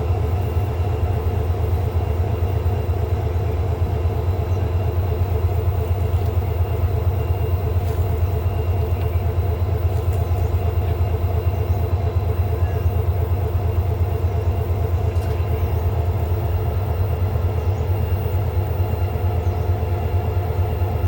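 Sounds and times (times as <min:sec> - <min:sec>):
diesel locomotive rumbling: 0:00.0 - 0:21.0.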